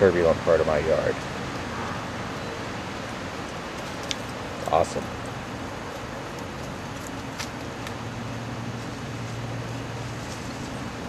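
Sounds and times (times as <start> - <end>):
wind turbine hum: 0.1 - 11.0.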